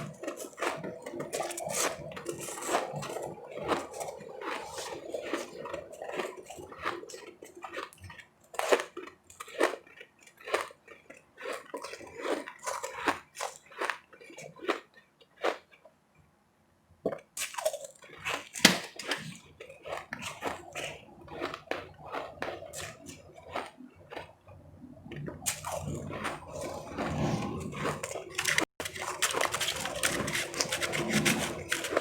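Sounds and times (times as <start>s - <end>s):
chewing ice crunches: 0.0s - 16.0s, 17.1s - 32.0s.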